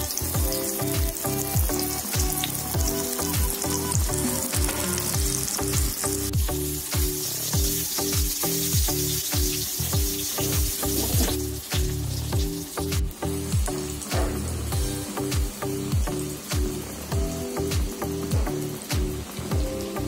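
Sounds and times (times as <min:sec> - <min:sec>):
vegetables sizzling in hot oil: 0:00.0 - 0:20.0
background music with deep kicks: 0:00.3 - 0:20.0.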